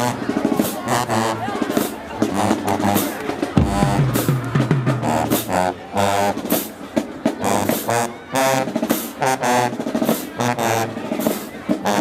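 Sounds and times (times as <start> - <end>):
brass chords: 0.0 - 12.0
snare and bass drums: 0.0 - 12.0.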